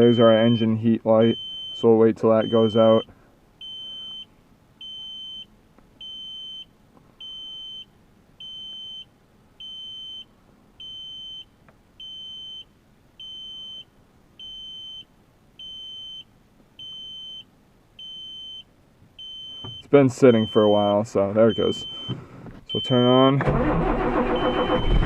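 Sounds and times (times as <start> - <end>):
high-pitched dashboard warning beeps: 0.0 - 25.0.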